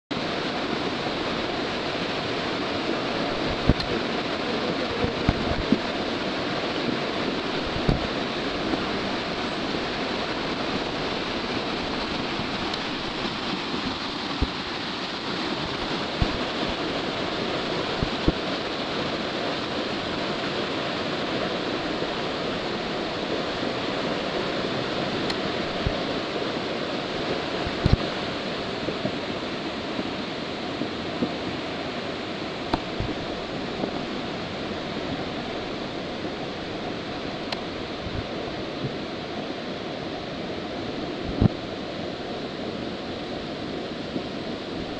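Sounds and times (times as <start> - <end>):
flooded brook rushing: 0.1 - 44.9.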